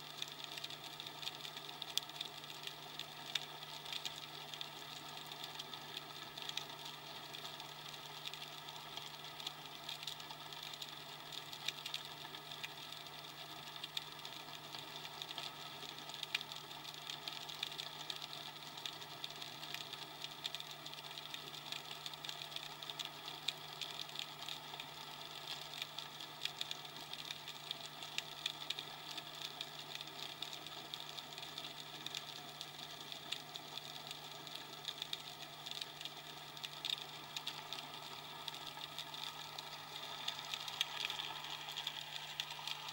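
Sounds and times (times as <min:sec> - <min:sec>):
crackle of fine clicks: 0:00.0 - 0:42.9
low underwater hum: 0:00.0 - 0:42.9.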